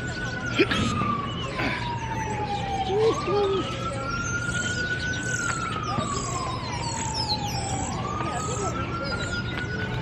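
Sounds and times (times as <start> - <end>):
emergency siren wailing: 0.0 - 10.0.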